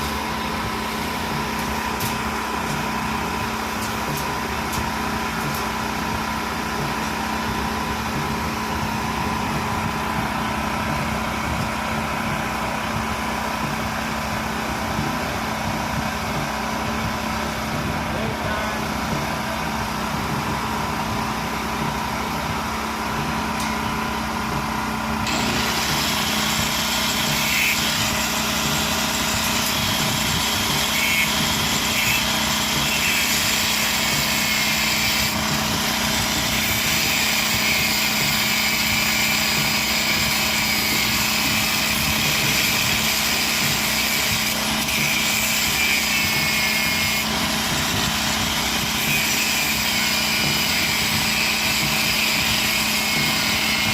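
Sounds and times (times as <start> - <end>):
small engine running steadily: 0.0 - 53.9.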